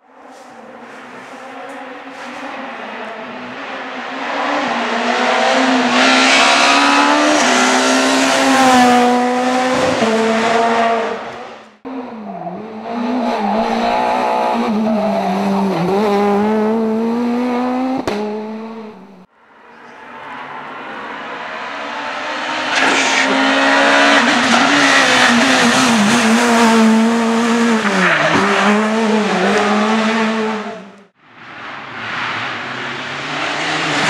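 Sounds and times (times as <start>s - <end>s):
rally car engines at high revs: 0.0s - 19.3s, 20.8s - 34.0s.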